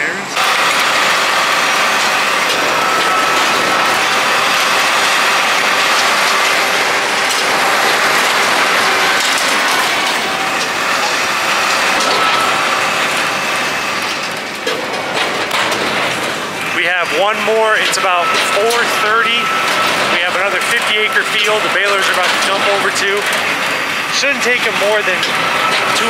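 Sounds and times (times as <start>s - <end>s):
hay bale machine rattling: 0.0s - 26.0s.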